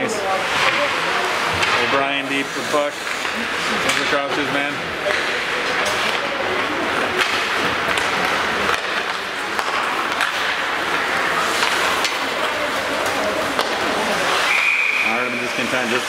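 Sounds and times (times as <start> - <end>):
hockey sticks and puck clacking: 0.0 - 16.0
low murmur of voices: 0.0 - 16.0
skate blades scraping ice: 0.2 - 16.0.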